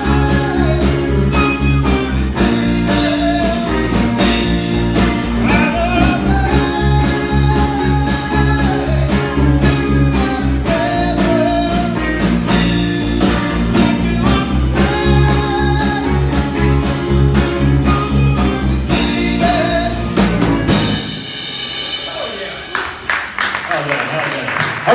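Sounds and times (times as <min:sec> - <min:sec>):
electric guitar: 0:00.0 - 0:22.0
bass guitar: 0:00.0 - 0:23.4
drums: 0:00.0 - 0:24.9.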